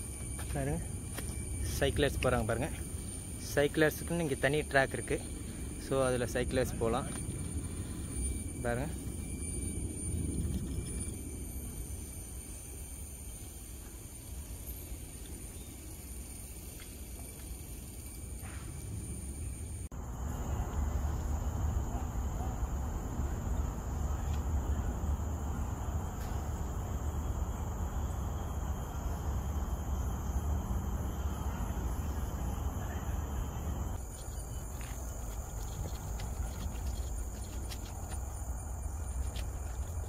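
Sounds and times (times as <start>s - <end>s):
forest insects droning: 0.0s - 40.0s.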